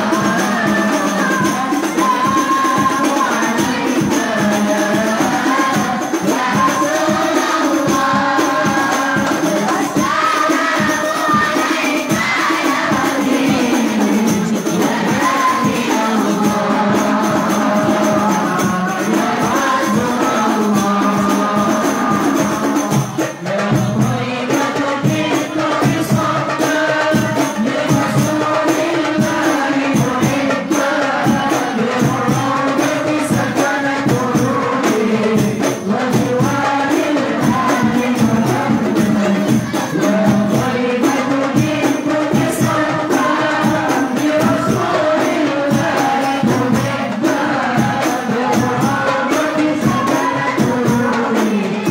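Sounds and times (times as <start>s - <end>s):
frame drums beating: 0.0s - 51.9s
person chanting into a microphone: 0.0s - 51.9s.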